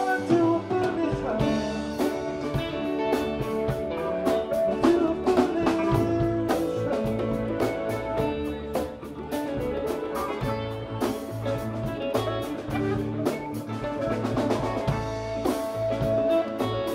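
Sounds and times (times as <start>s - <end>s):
bass guitar: 0.0s - 16.9s
congas: 0.0s - 16.9s
drum kit and cymbal hits: 0.0s - 16.9s
electric guitars: 0.0s - 16.9s
live band instrumental: 0.0s - 16.9s.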